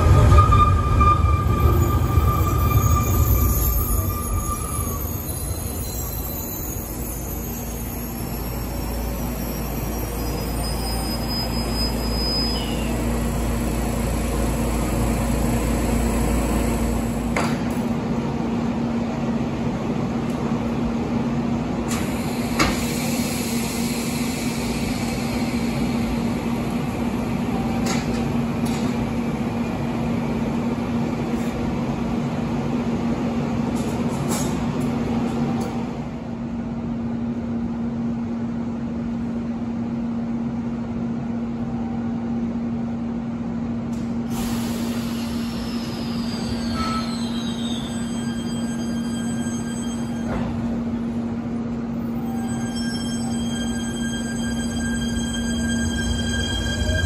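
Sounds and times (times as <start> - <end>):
electric train equipment hum: 0.0 - 33.9, 34.6 - 57.0.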